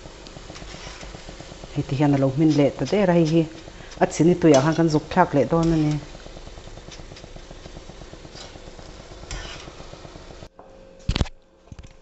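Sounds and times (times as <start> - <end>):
frying sizzle with crackles: 0.0 - 10.5
metal skimmer scraping pan: 0.0 - 10.5.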